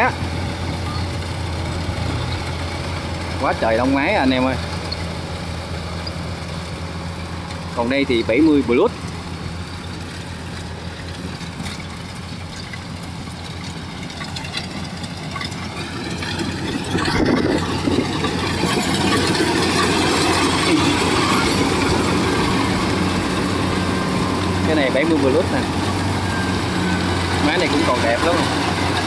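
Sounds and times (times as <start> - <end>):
combine harvester diesel engine: 0.0 - 29.0
rattle of harvesting gear: 0.0 - 29.0.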